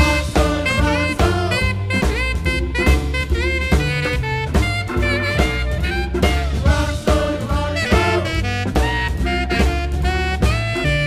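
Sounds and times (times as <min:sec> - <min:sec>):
swing music with horns: 0:00.0 - 0:11.0.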